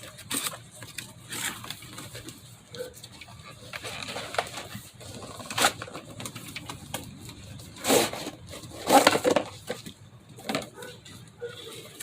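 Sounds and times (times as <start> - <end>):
packaging rustling: 0.0 - 10.5.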